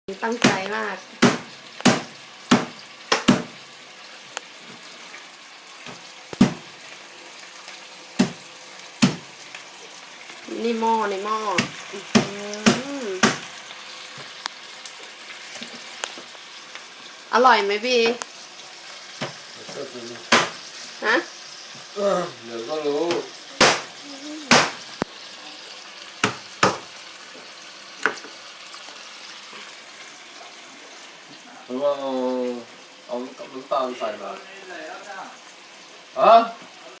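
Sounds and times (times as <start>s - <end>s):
food sizzling in a pan: 0.1s - 37.0s
frying hiss: 0.1s - 37.0s.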